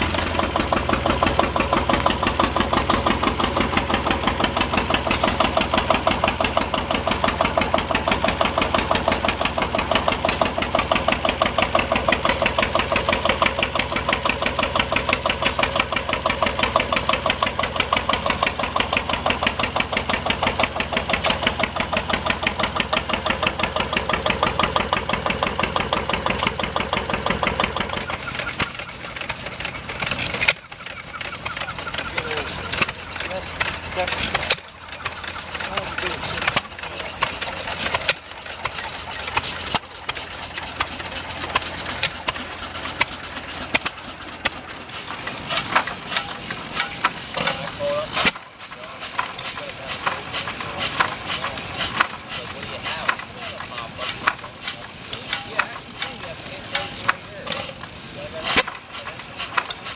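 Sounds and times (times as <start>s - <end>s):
engine chugging: 0.0s - 59.9s.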